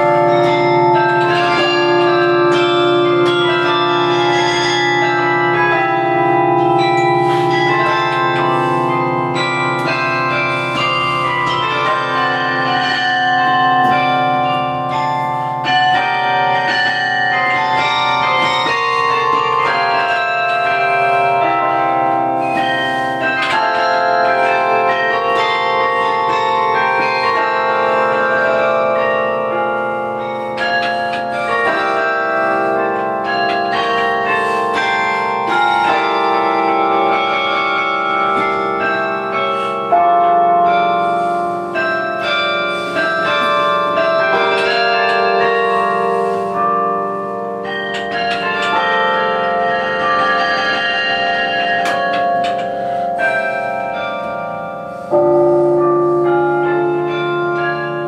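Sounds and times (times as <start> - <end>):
carillon bells ringing: 0.0 - 58.0.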